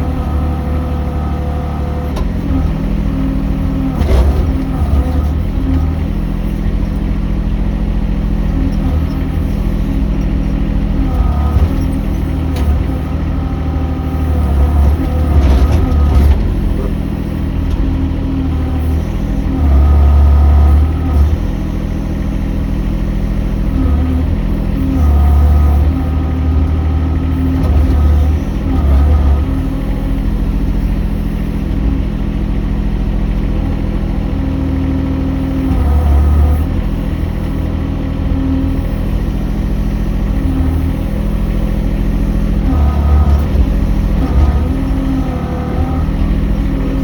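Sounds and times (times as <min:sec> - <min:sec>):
excavator engine running: 0:00.0 - 0:47.0.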